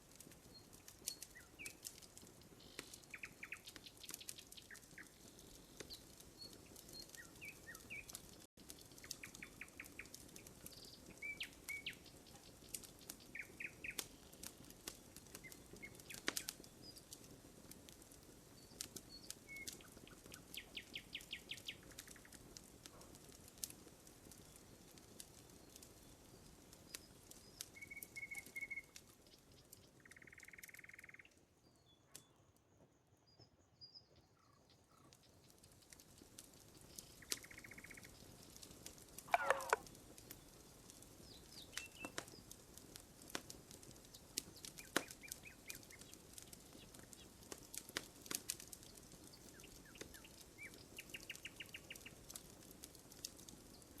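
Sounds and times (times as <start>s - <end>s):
campfire crackling and popping: 0.0s - 31.5s, 34.1s - 54.0s
small birds chirping: 0.2s - 22.6s, 23.2s - 42.6s, 44.0s - 52.4s.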